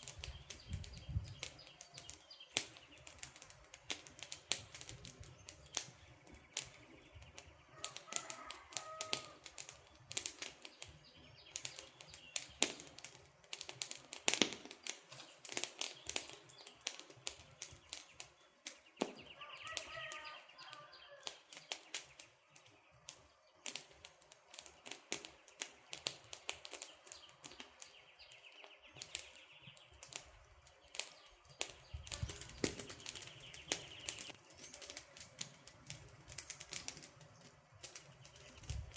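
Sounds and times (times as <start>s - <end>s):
faint birds chirping: 0.0s - 14.2s, 14.8s - 38.9s
campfire crackling and popping: 0.0s - 38.9s.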